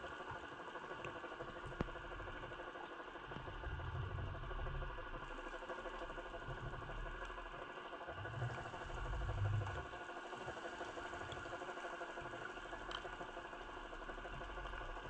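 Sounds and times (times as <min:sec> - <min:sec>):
motor humming underwater: 0:00.0 - 0:15.0.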